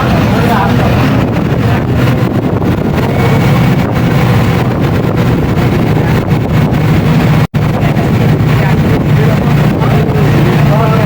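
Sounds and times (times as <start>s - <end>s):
bus diesel engine running: 0.0s - 11.0s
wind noise on microphone: 0.0s - 11.0s.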